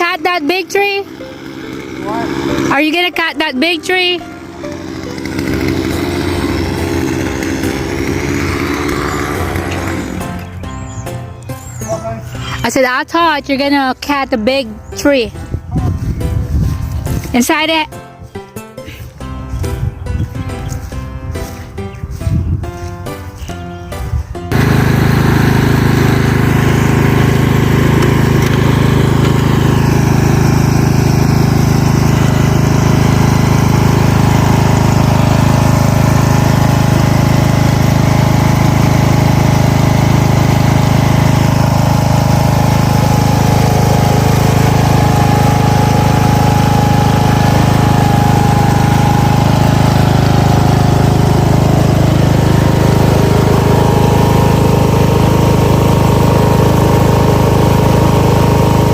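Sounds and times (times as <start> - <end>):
small engine running steadily: 0.0 - 58.9.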